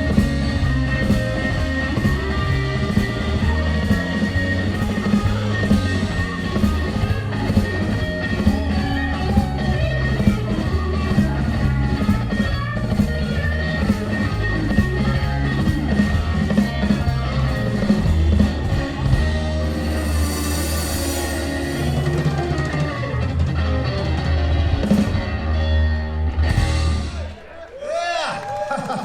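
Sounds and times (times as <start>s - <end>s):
blues band playing: 0.0s - 27.8s
guitar: 0.0s - 28.7s.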